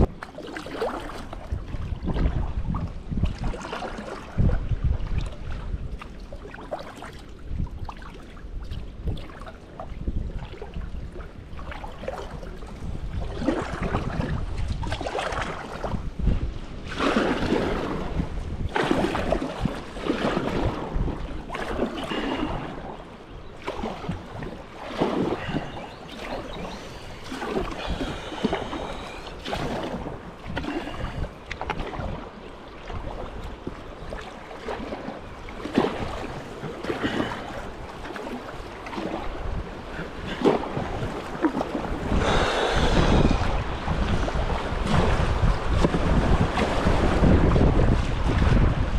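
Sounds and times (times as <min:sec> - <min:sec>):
paddle strokes in water: 0:00.0 - 0:48.9
wind buffeting microphone: 0:00.0 - 0:48.9.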